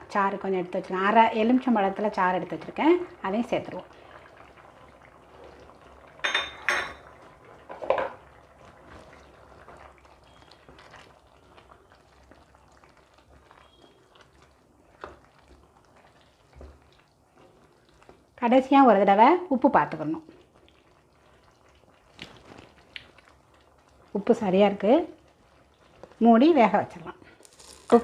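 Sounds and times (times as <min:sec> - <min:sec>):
rice simmering: 0:00.0 - 0:28.0.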